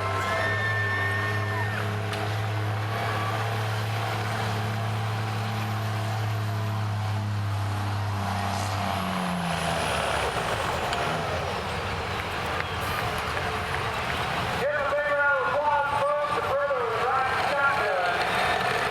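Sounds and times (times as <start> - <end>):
diesel pickup engine under load: 0.0 - 18.9.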